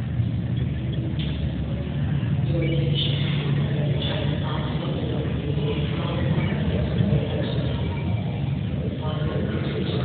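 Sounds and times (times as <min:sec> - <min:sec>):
jet engines idling: 0:00.0 - 0:10.0.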